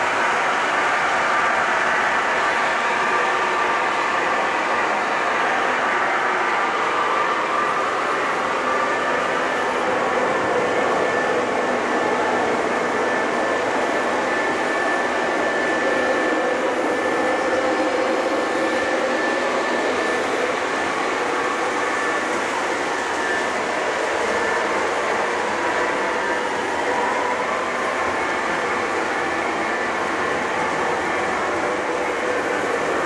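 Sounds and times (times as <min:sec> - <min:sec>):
model locomotive running on track: 0:00.0 - 0:33.0.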